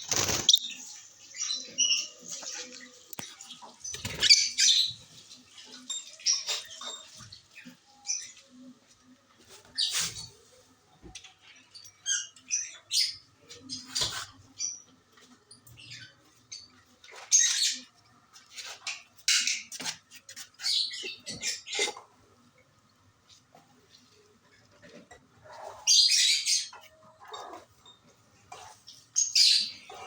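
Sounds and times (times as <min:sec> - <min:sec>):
lovebirds chirping and squawking: 0:00.0 - 0:22.6, 0:23.8 - 0:30.0.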